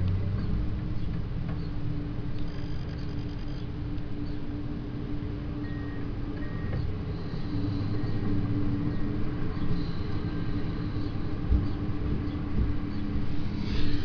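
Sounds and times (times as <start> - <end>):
excavator diesel engine droning: 0.0 - 14.0.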